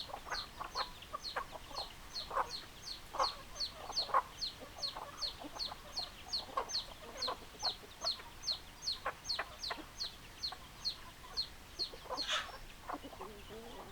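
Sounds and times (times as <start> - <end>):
chickens clucking: 0.0 - 13.9.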